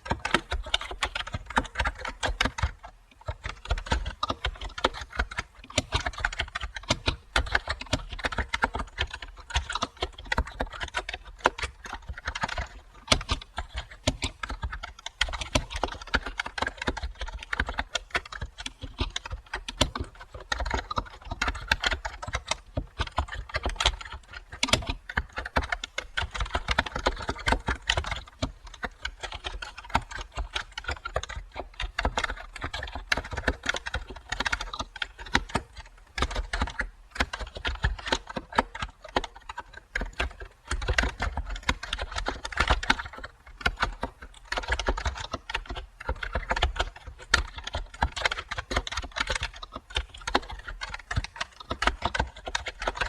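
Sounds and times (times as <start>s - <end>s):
keyboard typing: 0.0s - 53.0s.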